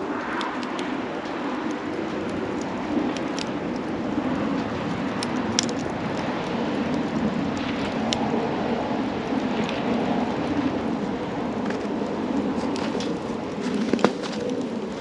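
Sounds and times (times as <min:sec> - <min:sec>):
campfire rushing: 0:00.0 - 0:15.0
fire crackles and pops: 0:00.0 - 0:15.0.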